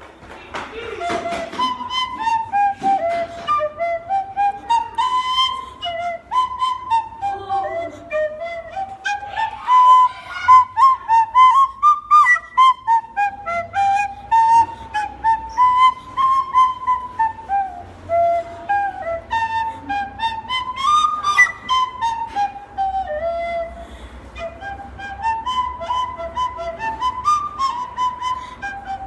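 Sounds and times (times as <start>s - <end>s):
recorder melody: 0.7s - 29.0s.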